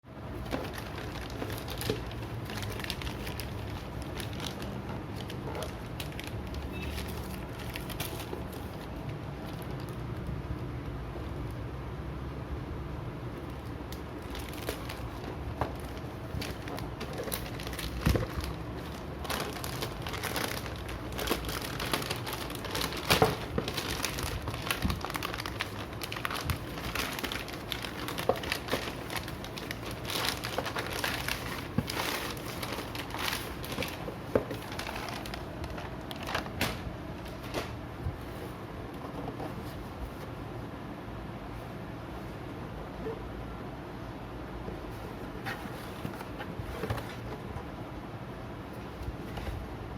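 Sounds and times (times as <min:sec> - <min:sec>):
packaging crinkling and rustling: 0:00.2 - 0:10.7, 0:13.3 - 0:40.4, 0:44.9 - 0:47.7.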